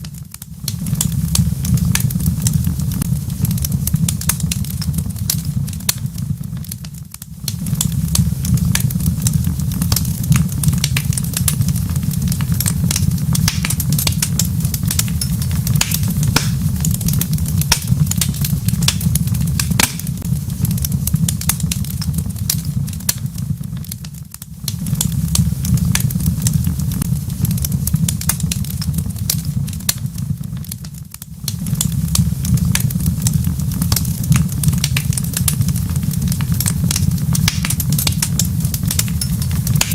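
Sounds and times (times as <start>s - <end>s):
steady low rumble: 0.0s - 39.9s
wood fire crackling and popping: 0.0s - 39.9s.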